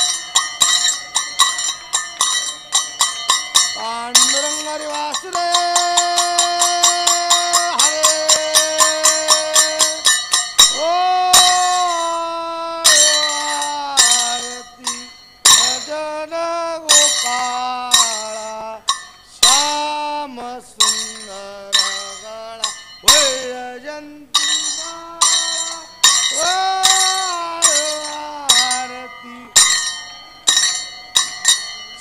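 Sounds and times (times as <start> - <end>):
ritual bell clinks: 0.0 - 32.0.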